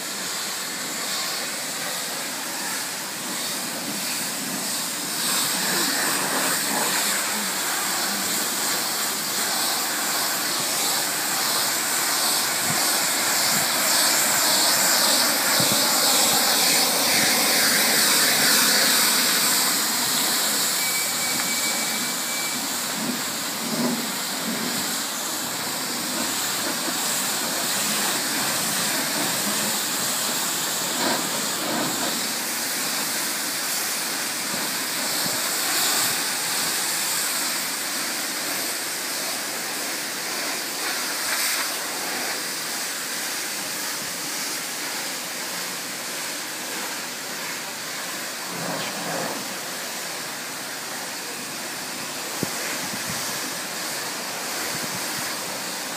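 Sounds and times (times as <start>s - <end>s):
high-pressure water jet hissing: 0.0s - 55.9s.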